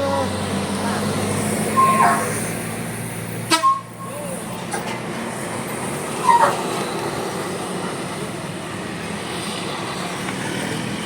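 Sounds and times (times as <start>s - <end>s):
heavy vehicle engine drone: 0.0s - 11.0s.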